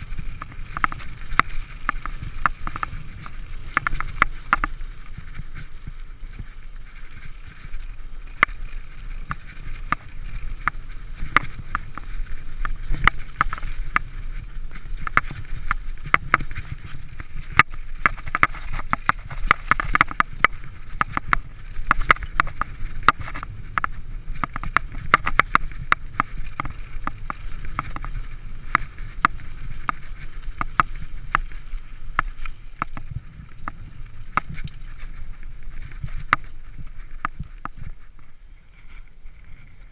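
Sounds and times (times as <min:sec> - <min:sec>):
bike rattling over bumps: 0:00.0 - 0:39.9
bike tyres rumbling on dirt: 0:00.0 - 0:39.9.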